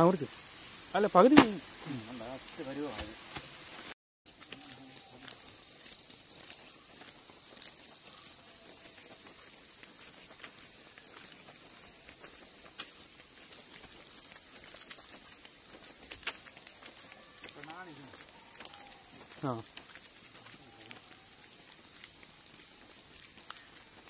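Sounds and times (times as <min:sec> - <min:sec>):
steady hiss: 0:00.0 - 0:24.0
light ticks and pats: 0:04.4 - 0:24.0.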